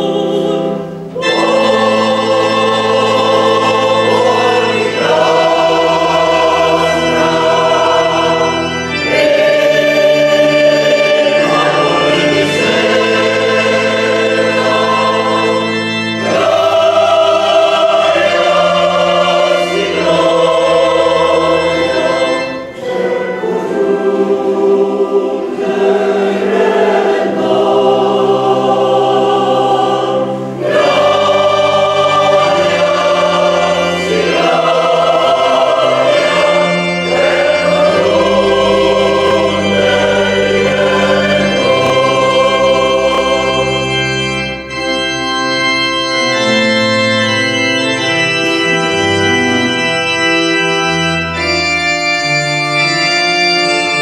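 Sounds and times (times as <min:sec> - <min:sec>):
choir singing: 0:00.0 - 0:54.0
keyboard organ chords: 0:00.0 - 0:54.0.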